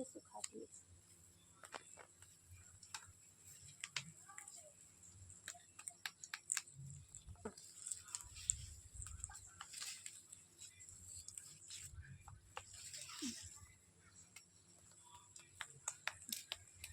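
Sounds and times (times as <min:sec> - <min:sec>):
light clicks and taps: 0:01.5 - 0:13.6, 0:14.2 - 0:16.9.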